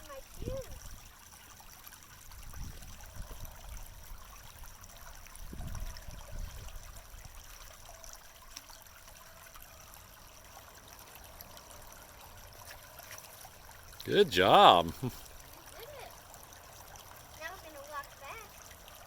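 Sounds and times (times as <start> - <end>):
creek water rippling: 0.0 - 19.0.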